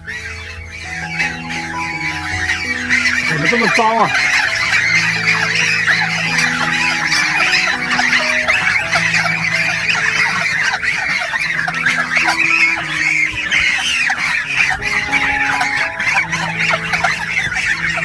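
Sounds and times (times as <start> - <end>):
chickens calling: 0.0 - 18.0
geese calling: 0.0 - 18.0.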